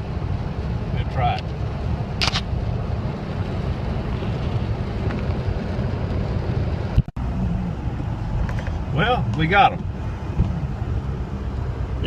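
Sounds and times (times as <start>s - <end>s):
car engine rumble in cabin: 0.0s - 12.0s
road noise: 0.0s - 12.0s.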